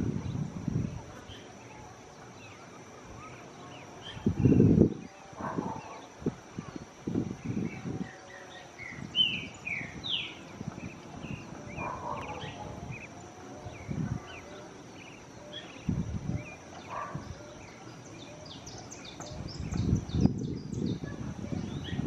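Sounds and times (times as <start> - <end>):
steady high whine: 0.0 - 22.0
small birds chirping and trilling: 0.1 - 22.0.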